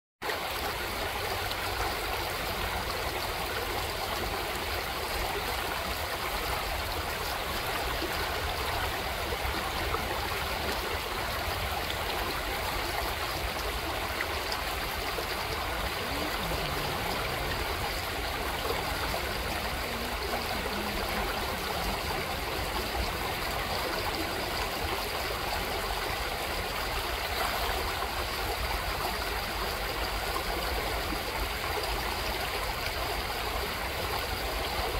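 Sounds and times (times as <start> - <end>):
creek water rushing and gurgling: 0.2 - 34.9.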